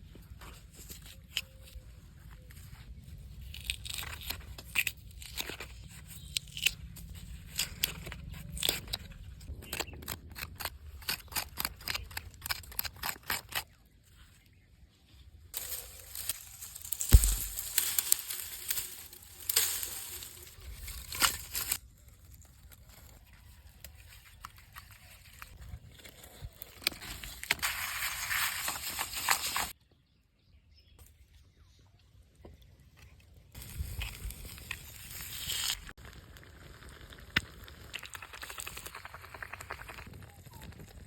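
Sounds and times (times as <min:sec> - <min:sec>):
crisp clicks and crunching: 0:00.4 - 0:13.9, 0:15.5 - 0:29.8, 0:33.5 - 0:41.0.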